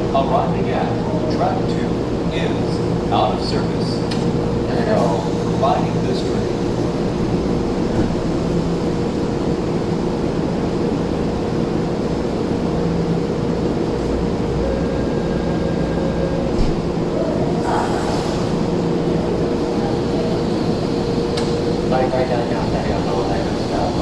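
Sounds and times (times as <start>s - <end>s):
train humming: 0.0s - 24.0s.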